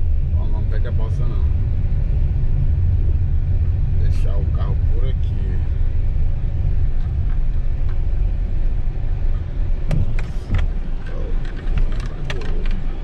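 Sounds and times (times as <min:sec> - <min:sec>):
car rumbling on dirt road: 0:00.0 - 0:13.0.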